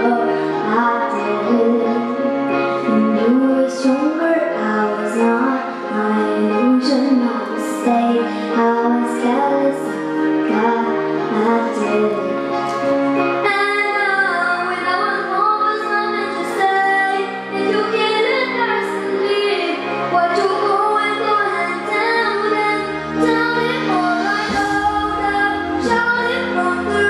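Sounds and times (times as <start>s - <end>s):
girl singing into a microphone: 0.0s - 27.0s
instrumental accompaniment: 0.0s - 27.0s.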